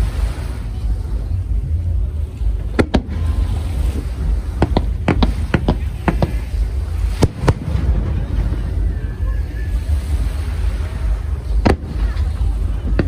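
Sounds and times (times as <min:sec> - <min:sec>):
low rumble: 0:00.0 - 0:13.0
fireworks bangs: 0:02.5 - 0:13.0.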